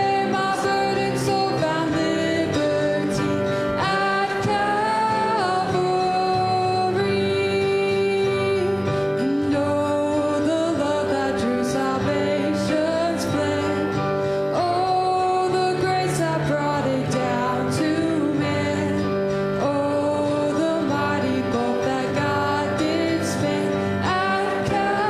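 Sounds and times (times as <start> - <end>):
slow worship band song: 0.0 - 25.0.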